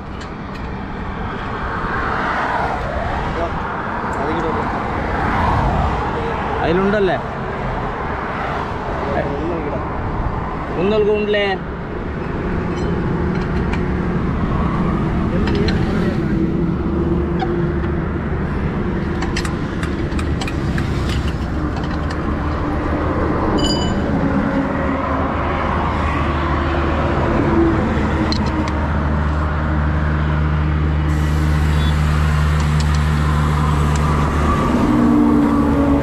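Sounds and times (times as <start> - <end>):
heavy vehicle engines droning: 0.0 - 36.0
highway traffic: 0.0 - 36.0.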